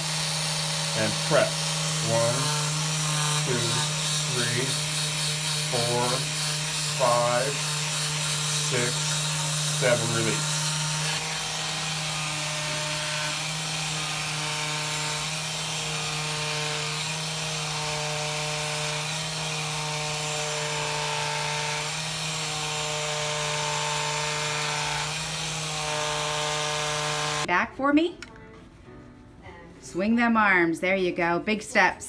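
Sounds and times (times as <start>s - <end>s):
small electric motor buzzing: 0.0s - 27.5s.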